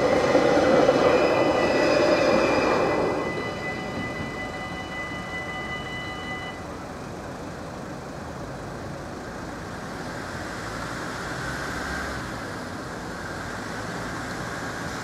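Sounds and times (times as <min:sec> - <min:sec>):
rumble of vehicles: 0:00.0 - 0:15.0.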